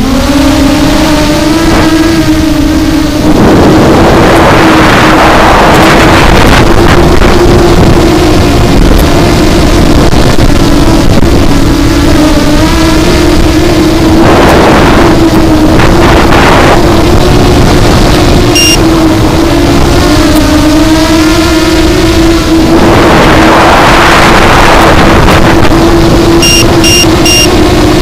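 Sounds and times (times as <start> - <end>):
drone motors whining: 0.0 - 28.0
wind noise on the mic: 0.0 - 28.0.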